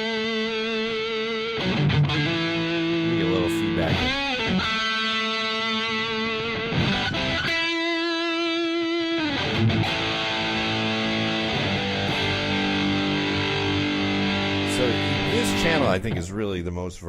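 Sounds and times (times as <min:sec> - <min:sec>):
overdriven electric guitar: 0:00.0 - 0:16.1
guitar feedback: 0:00.0 - 0:16.4.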